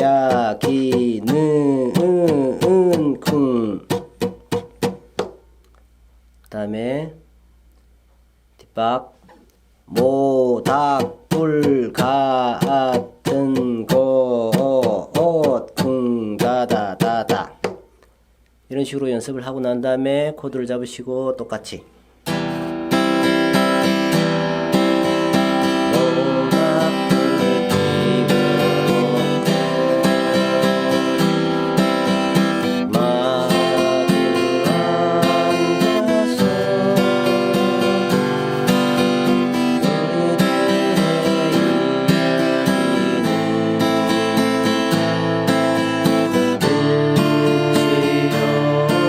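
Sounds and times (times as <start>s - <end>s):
acoustic guitar strumming waltz: 0.0s - 5.6s, 9.1s - 17.8s, 21.9s - 49.0s.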